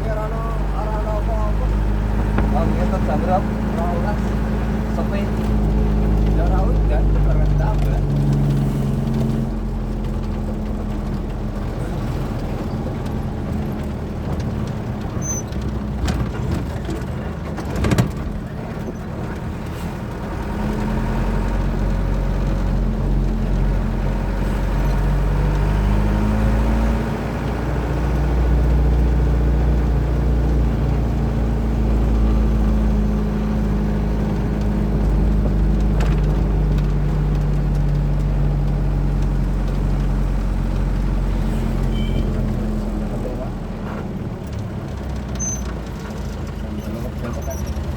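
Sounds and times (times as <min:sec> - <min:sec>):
road noise: 0:00.0 - 0:47.9
truck engine running: 0:00.0 - 0:47.9.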